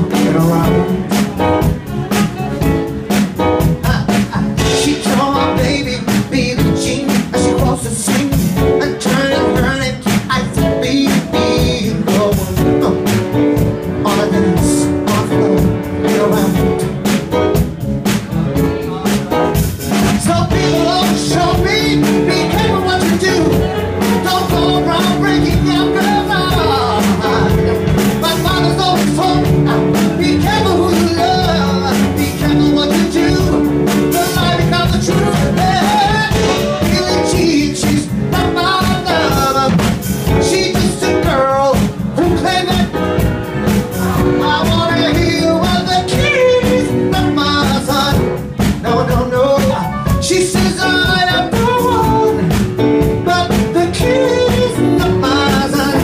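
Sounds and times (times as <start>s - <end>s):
person singing: 0.0s - 17.4s, 18.3s - 56.0s
drum kit beat: 0.0s - 56.0s
electric bass guitar: 0.0s - 56.0s
piano: 0.0s - 56.0s.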